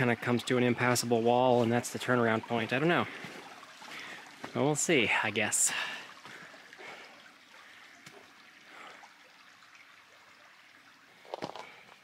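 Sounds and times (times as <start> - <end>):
mountain creek flowing: 0.0 - 12.0.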